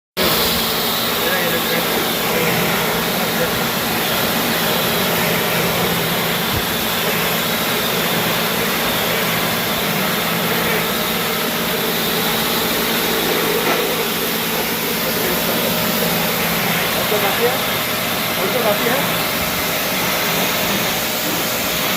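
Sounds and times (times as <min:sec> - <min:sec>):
machine humming and hissing: 0:00.2 - 0:21.9.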